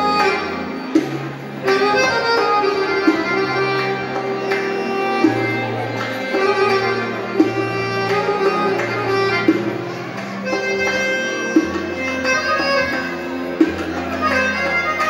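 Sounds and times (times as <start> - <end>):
accordion melody: 0.0 - 15.0
keyboard bass notes: 0.0 - 15.0.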